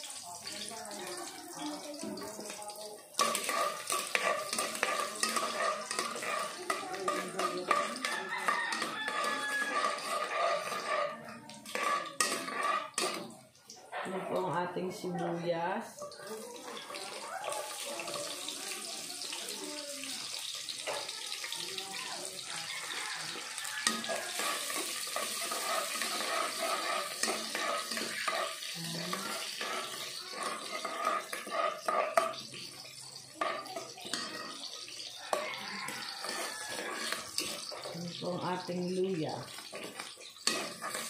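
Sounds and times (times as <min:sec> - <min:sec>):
onion sizzling in hot oil: 0:00.0 - 0:41.0.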